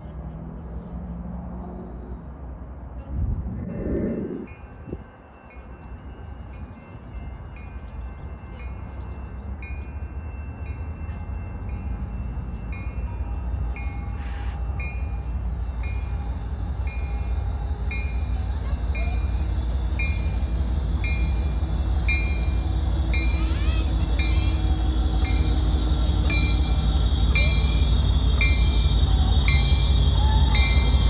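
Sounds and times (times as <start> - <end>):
diesel locomotive rumble: 0.0 - 31.0
train bell ringing: 4.4 - 31.0.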